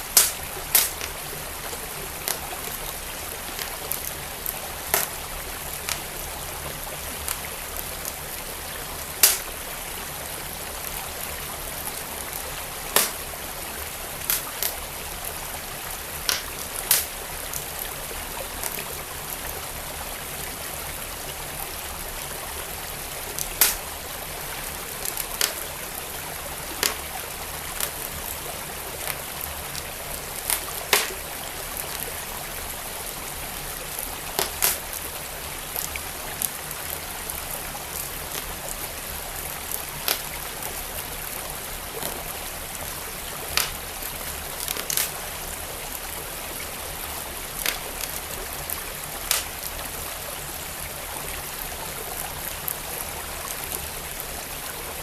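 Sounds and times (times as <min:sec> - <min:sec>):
wood fire crackling: 0:00.0 - 0:19.8, 0:21.1 - 0:32.2, 0:32.8 - 0:49.8
stream flowing: 0:00.0 - 0:55.0.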